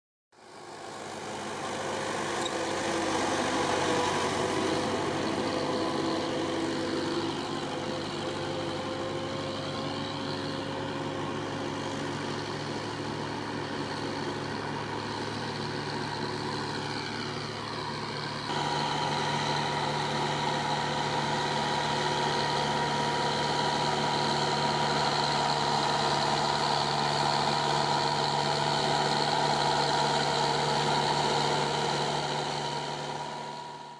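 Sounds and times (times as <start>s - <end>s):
tractor diesel engine under load: 0.3s - 33.9s.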